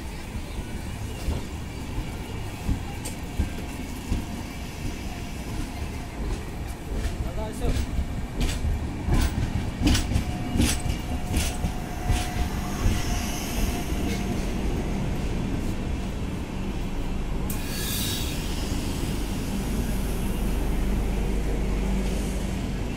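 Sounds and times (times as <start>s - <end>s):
train coaches rumbling past: 0.0s - 22.9s.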